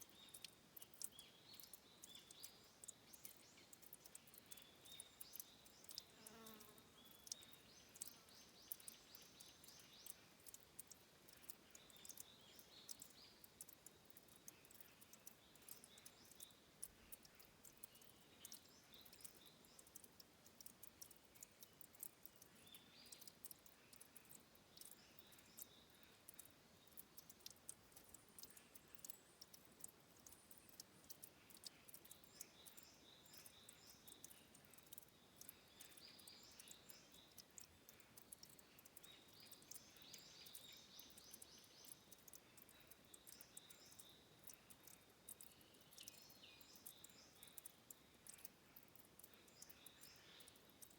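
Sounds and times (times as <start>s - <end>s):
water dripping and trickling: 0.0s - 50.9s.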